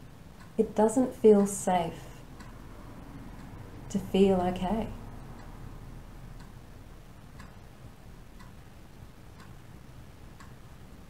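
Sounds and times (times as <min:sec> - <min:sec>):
clock ticking faintly: 0:00.0 - 0:11.0.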